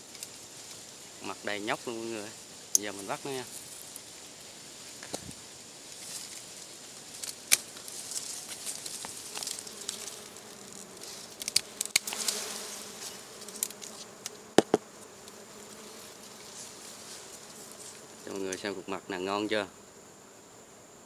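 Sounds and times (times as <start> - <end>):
bees buzzing: 0.0 - 20.8.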